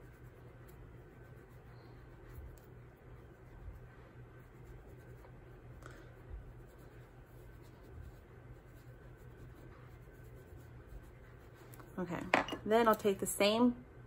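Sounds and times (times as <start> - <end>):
makeup brush swishing on skin: 0.0 - 12.1
low room hum: 0.0 - 14.0.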